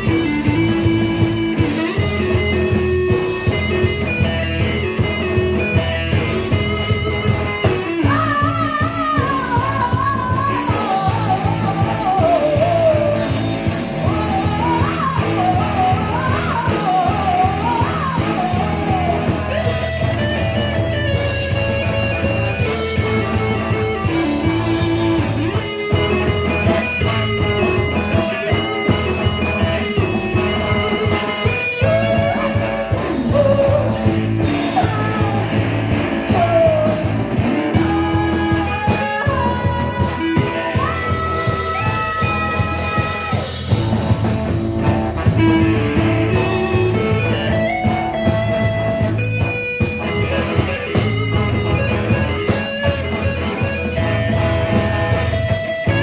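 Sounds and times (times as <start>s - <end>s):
live rock band playing: 0.0s - 56.0s
wavering lead melody: 0.0s - 56.0s.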